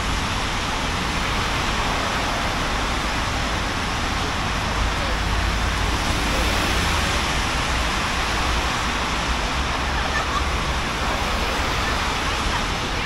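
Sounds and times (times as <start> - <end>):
traffic on wet roads: 0.0 - 13.0.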